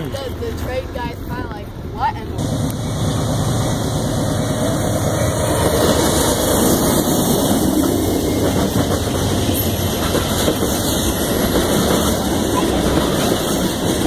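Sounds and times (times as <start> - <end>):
diesel locomotive passing: 0.0 - 14.0
train wheels on rails: 0.0 - 14.0.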